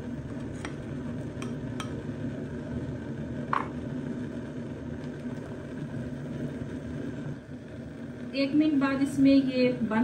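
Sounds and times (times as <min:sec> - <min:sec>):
stock boiling in a pot: 0:00.0 - 0:10.0.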